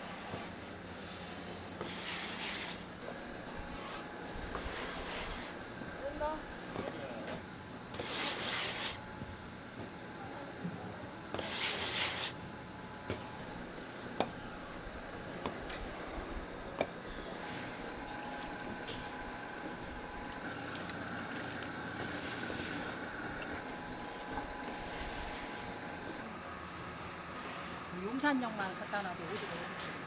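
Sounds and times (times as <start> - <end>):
machinery hum: 0.0 - 30.0.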